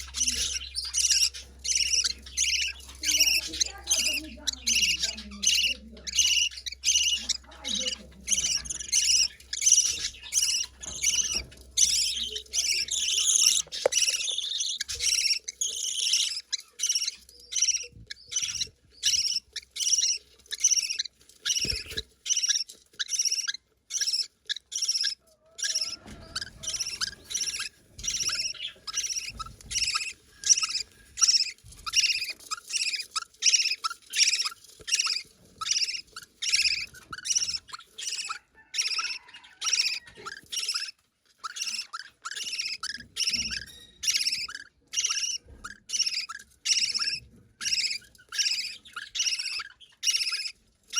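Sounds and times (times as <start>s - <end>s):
budgerigar chicks begging calls: 0.0s - 50.9s.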